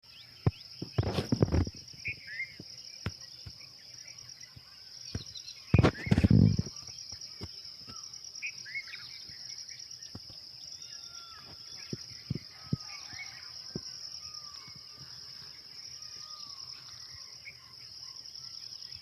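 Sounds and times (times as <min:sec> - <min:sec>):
bird chirps: 0:00.0 - 0:19.0
insect trill: 0:00.1 - 0:19.0.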